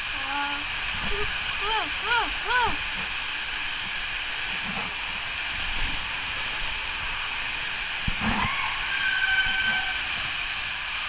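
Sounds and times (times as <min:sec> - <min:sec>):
water rushing down a slide: 0:00.0 - 0:11.0.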